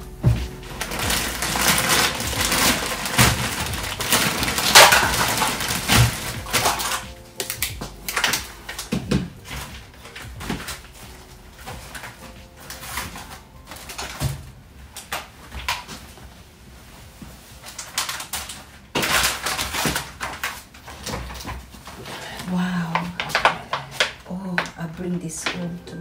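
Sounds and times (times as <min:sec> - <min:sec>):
plastic packages rustling and crinkling: 0:00.0 - 0:26.0.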